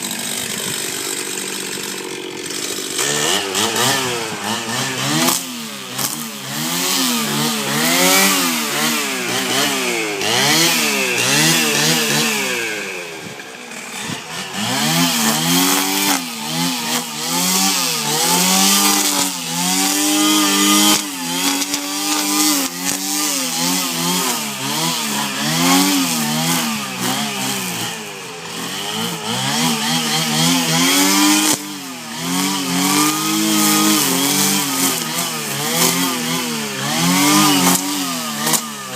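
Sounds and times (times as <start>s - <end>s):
brush cutter engine revving: 0.0s - 38.9s.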